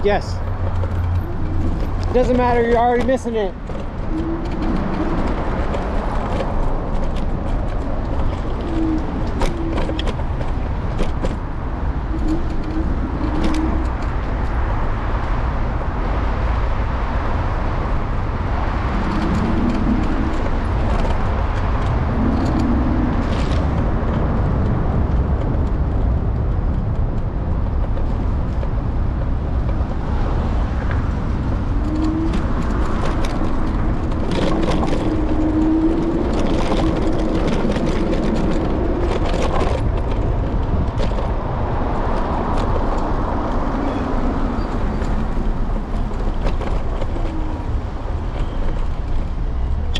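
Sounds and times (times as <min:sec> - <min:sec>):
road rumble: 0:00.0 - 0:49.9
wind rushing over camera: 0:00.0 - 0:49.9.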